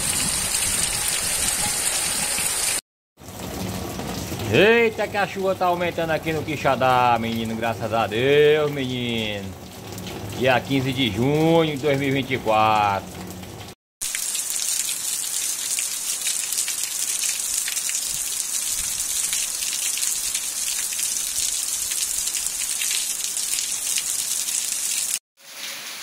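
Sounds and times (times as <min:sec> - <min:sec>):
heavy rain on ground: 0:00.0 - 0:26.0.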